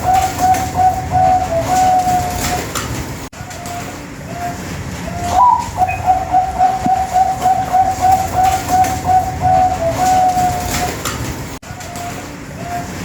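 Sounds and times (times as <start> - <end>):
dove cooing: 0.0 - 2.8, 3.4 - 11.2.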